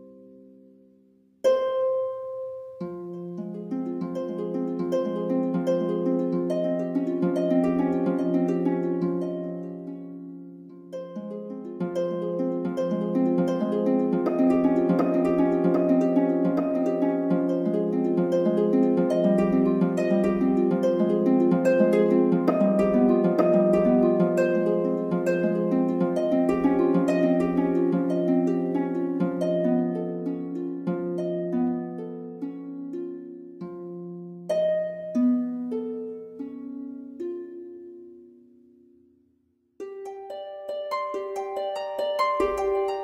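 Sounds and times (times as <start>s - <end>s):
plucked harp-like instrumental music: 0.0s - 39.2s, 39.8s - 43.0s.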